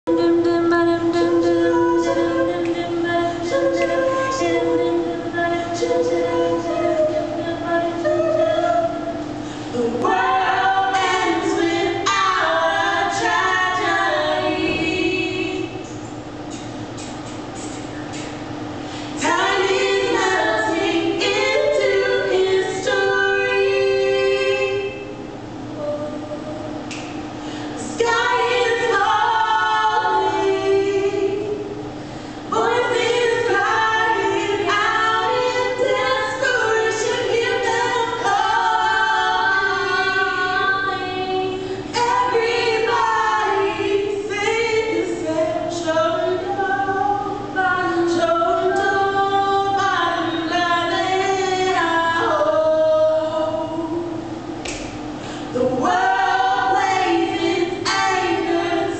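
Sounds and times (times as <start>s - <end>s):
women singing a cappella: 0.0s - 58.9s.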